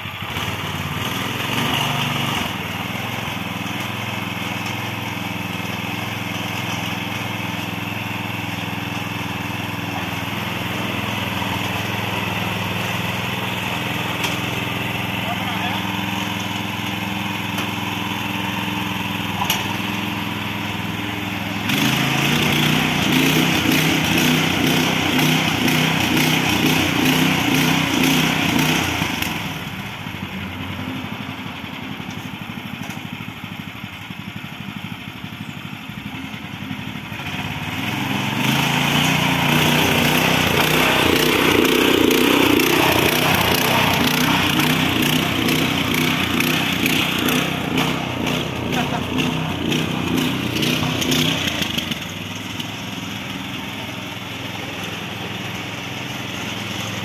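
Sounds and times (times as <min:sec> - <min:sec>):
tiller engine running: 0:00.0 - 0:57.0.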